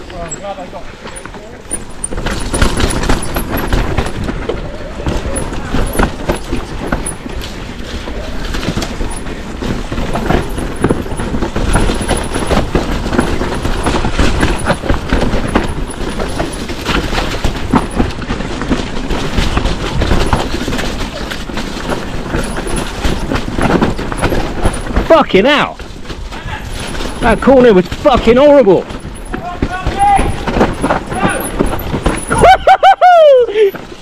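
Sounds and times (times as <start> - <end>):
mountain bike clattering over rocks: 0.0 - 34.0.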